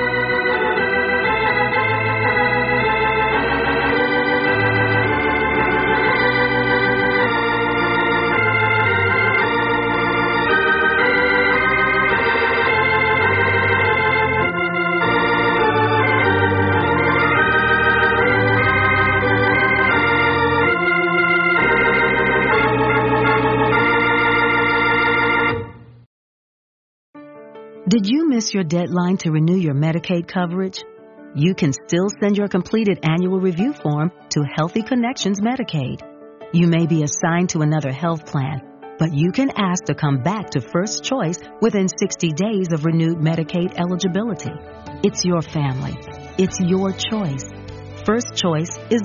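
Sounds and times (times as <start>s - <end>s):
organ music: 0.0s - 26.1s, 27.2s - 49.0s.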